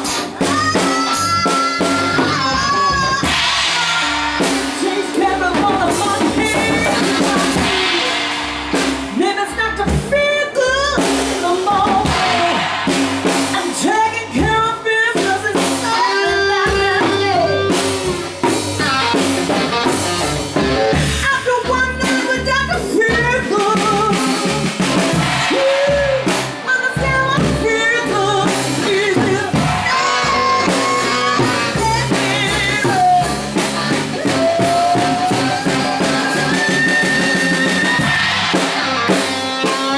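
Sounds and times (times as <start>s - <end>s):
live blues rock band: 0.0s - 39.9s.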